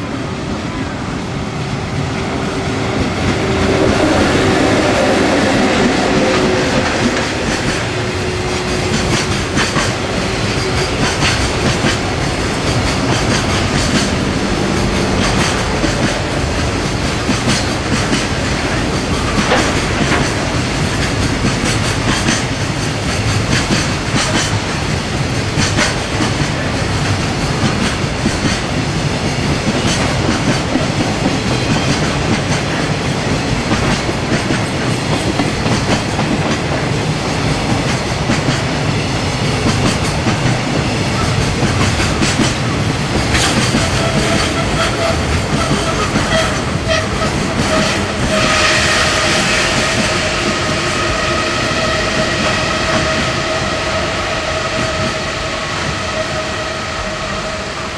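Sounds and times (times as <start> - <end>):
electric locomotive humming: 0.0 - 57.9.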